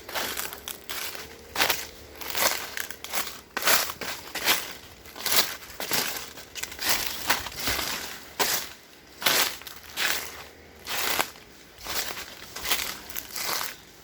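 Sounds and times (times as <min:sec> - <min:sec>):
footsteps crunching through dry leaves: 0:00.0 - 0:14.0.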